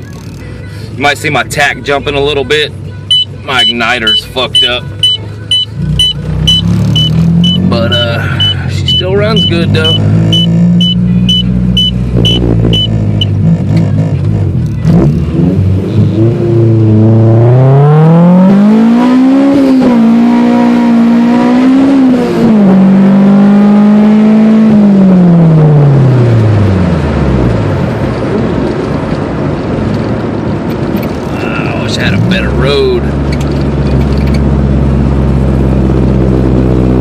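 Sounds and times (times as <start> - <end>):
car engine accelerating: 3.6 - 37.0.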